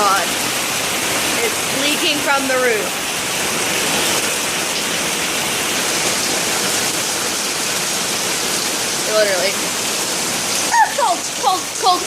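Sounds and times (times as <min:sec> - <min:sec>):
heavy rain rushing: 0:00.0 - 0:12.0
water pouring off roof: 0:00.0 - 0:12.0.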